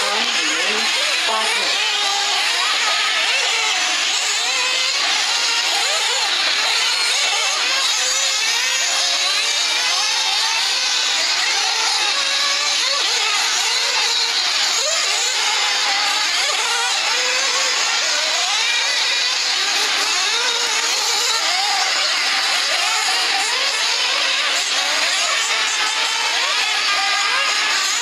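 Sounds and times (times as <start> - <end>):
rc car engines racing: 0.0 - 28.0.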